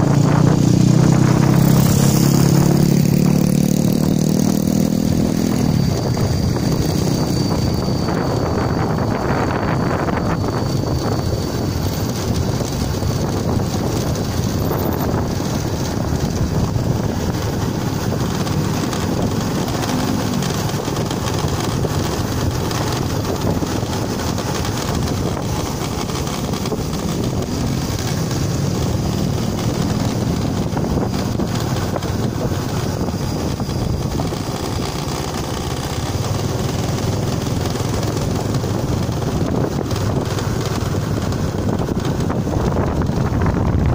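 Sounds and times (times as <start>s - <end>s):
vehicle and tyres rumbling: 0.0s - 43.9s
wind buffeting microphone: 0.0s - 43.9s.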